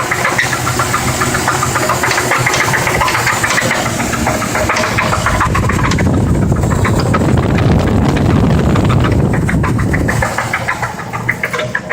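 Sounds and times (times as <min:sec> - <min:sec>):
engine running: 0:00.0 - 0:11.9
rapid engine rod knocking: 0:00.0 - 0:11.9.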